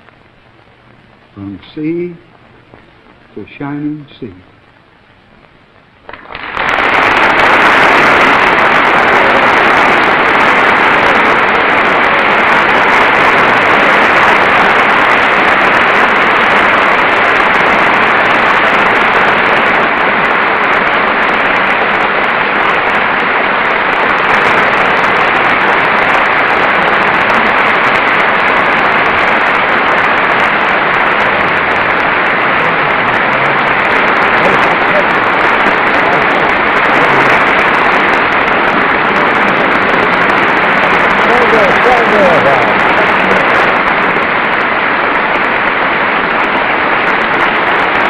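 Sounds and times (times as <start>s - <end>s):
large crowd clapping: 6.1s - 48.0s.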